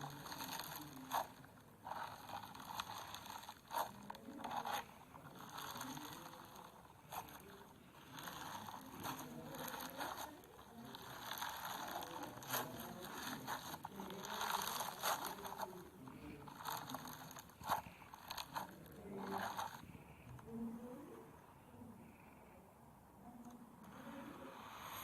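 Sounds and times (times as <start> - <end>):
foam slime crackling and squishing: 0.0 - 20.6.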